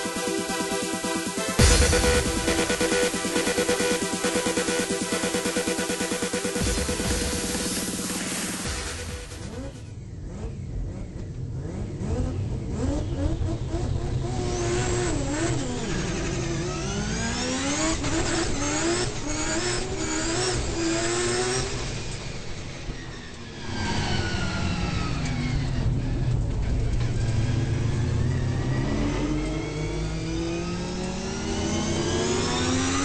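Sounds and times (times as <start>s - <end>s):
rotary race car engine revving: 0.0s - 33.0s.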